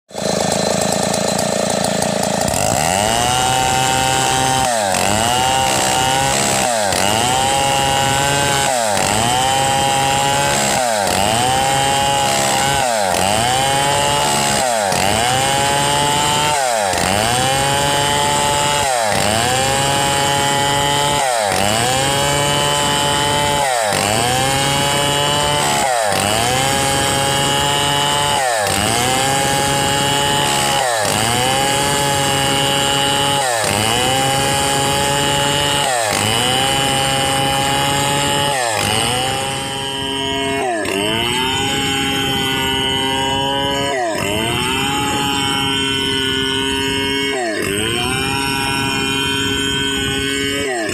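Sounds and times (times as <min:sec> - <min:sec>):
chainsaw cutting through log: 0:00.0 - 0:50.9.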